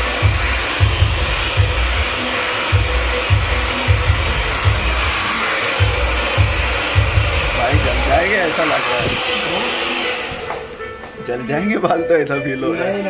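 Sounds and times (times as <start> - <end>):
hair dryer blowing: 0.0 - 11.1
music with low beat: 0.0 - 12.4.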